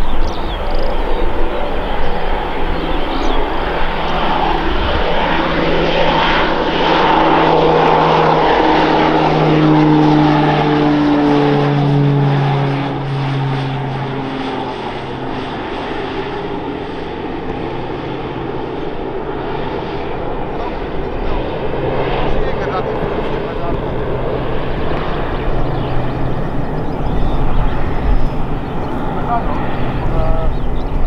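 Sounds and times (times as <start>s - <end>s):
turboprop aircraft flying past: 0.0s - 31.0s.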